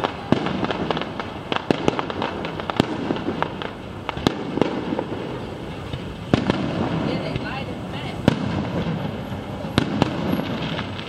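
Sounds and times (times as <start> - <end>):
background hiss: 0.0 - 11.0
fireworks bangs and crackling: 0.0 - 11.0.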